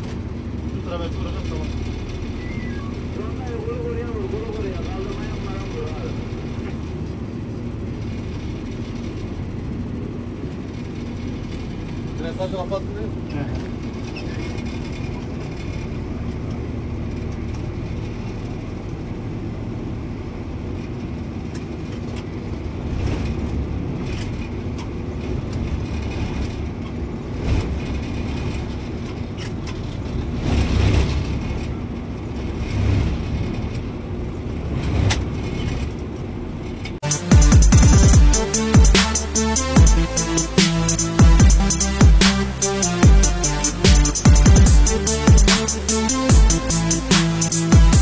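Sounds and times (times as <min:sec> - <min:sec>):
low diesel drone: 0:00.0 - 0:48.0.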